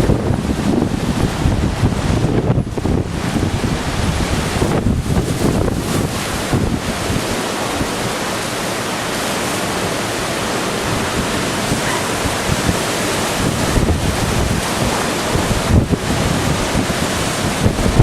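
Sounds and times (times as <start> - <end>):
heavy rain hissing: 0.0 - 18.0
wind buffeting microphone: 0.0 - 18.0.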